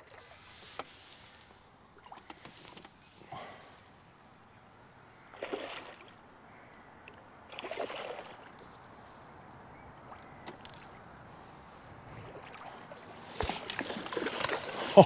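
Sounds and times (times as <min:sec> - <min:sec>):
water splashing: 0:00.0 - 0:03.9, 0:05.1 - 0:15.0.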